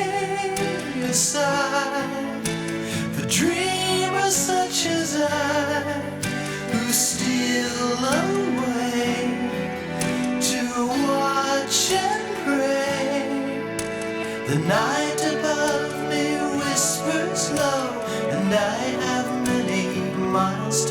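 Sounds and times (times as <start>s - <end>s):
person singing: 0.0s - 20.9s
plucked guitar strings: 0.0s - 20.9s.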